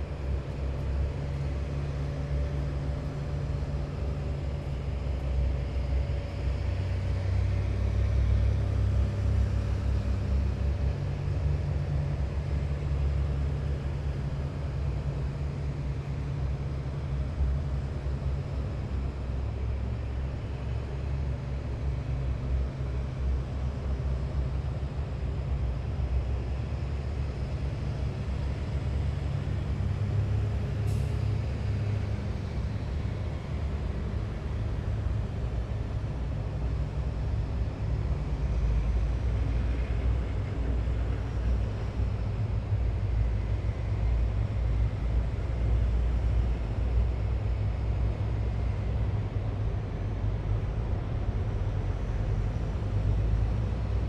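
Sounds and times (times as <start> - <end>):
heavy vehicle engines droning: 0.0 - 54.0.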